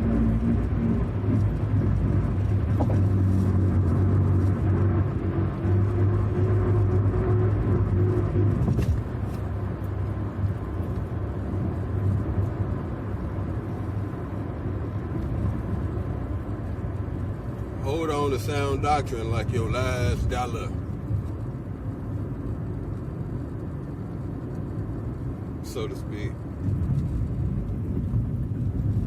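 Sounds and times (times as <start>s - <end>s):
car engine hum: 0.0s - 29.0s
road noise: 0.0s - 29.0s.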